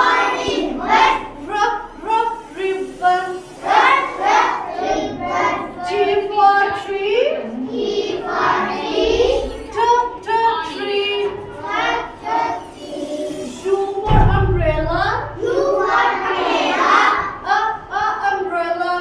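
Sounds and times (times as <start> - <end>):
young children singing: 0.0 - 19.0.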